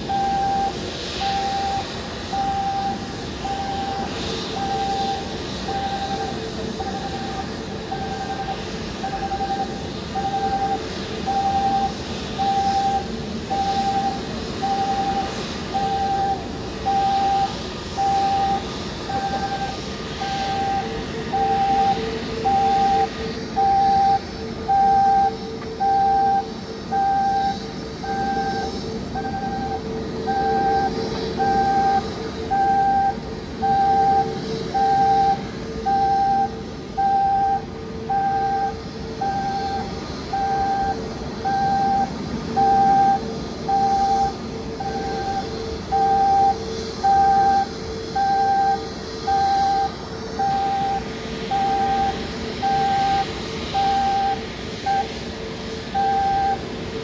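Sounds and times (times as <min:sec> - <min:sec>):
warning beeper beeping: 0:00.0 - 0:55.2, 0:55.9 - 0:56.7
mechanical hum: 0:00.0 - 0:57.0.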